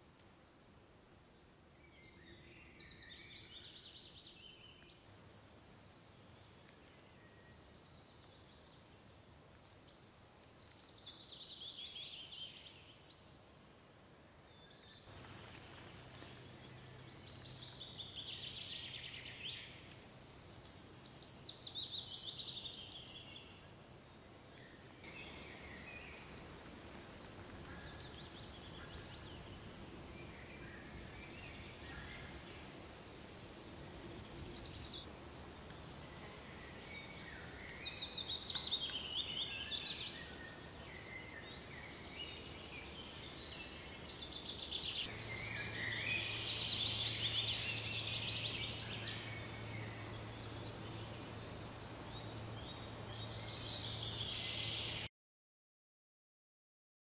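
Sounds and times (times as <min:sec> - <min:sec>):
faint ambient hiss: 0:00.0 - 0:55.1
songbird singing: 0:01.0 - 0:55.1.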